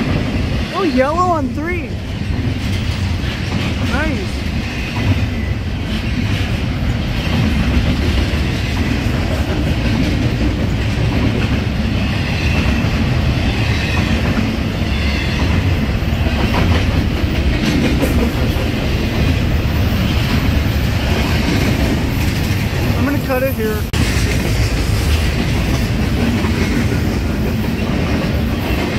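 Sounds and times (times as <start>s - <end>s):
freight train cars rolling past: 0.0s - 28.9s
steel wheels on rails: 0.0s - 28.9s.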